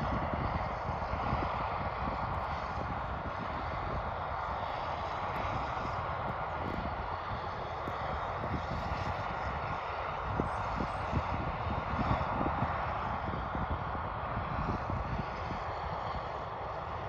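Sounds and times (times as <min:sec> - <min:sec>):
helicopter turbine and rotor whine: 0:00.0 - 0:17.0
low rumble of buffeting: 0:00.0 - 0:17.0.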